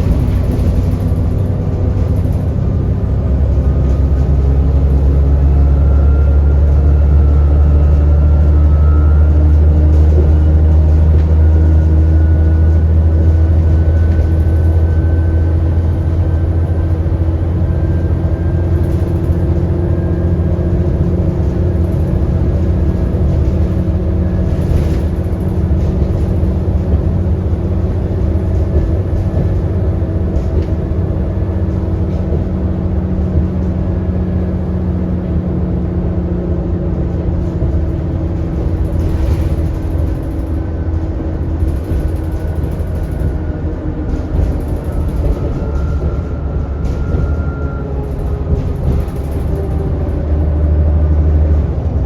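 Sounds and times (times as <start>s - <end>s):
bus engine running: 0.0s - 52.0s.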